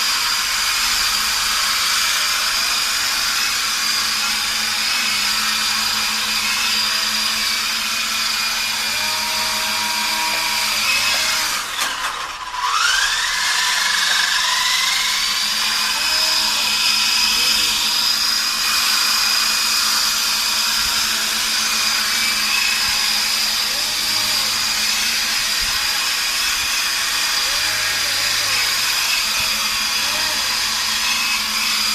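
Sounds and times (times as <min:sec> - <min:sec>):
toy helicopter motor whine: 0:00.0 - 0:31.9.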